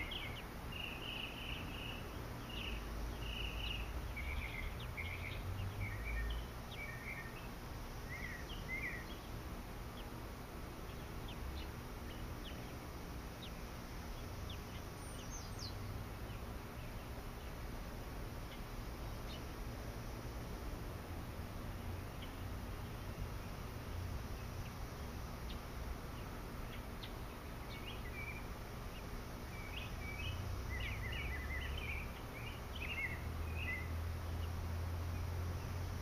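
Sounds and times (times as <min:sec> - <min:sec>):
bird chirps: 0:00.0 - 0:10.2, 0:10.8 - 0:17.6, 0:22.0 - 0:35.8
low outdoor rumble: 0:00.0 - 0:36.0.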